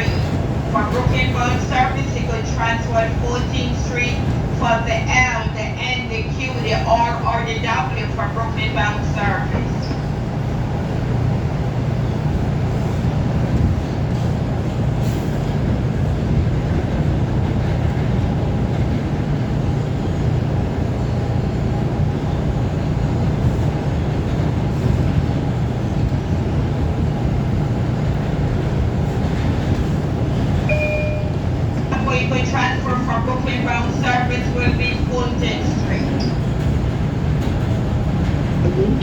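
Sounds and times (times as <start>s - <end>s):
subway train rumbling on rails: 0.0s - 39.0s.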